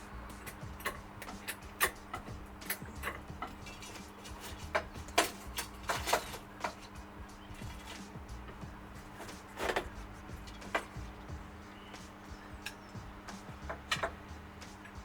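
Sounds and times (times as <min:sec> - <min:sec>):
tools clicking and knocking: 0:00.0 - 0:11.1, 0:12.6 - 0:15.0.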